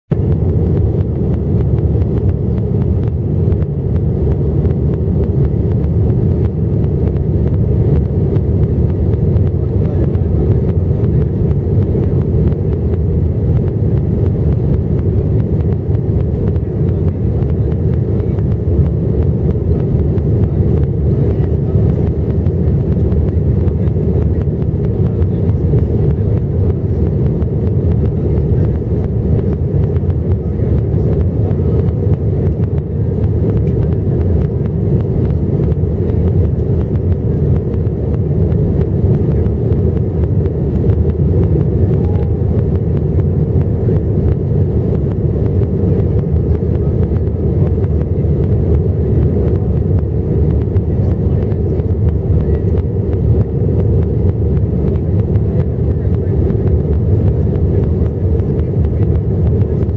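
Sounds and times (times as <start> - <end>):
airliner cabin rumble: 0.1 - 59.9.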